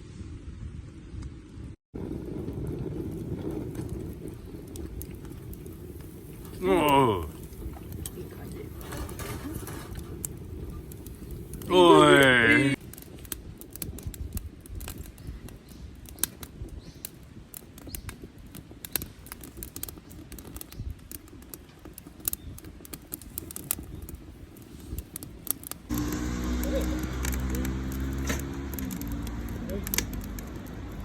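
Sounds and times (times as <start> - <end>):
wood fire crackling and popping: 1.9 - 31.0.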